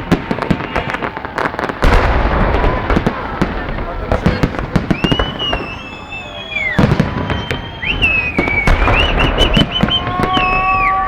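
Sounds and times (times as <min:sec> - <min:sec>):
firework whistles: 0:00.0 - 0:11.0
fireworks bangs and crackles: 0:00.0 - 0:11.0.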